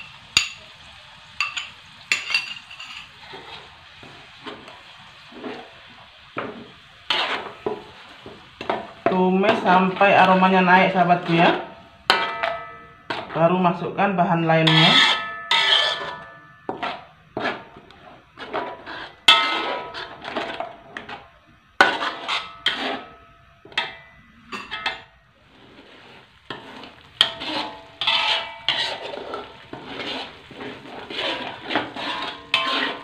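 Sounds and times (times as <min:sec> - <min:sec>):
metal ladle scraping a wok: 0:01.4 - 0:05.8, 0:06.4 - 0:13.4, 0:14.6 - 0:33.0.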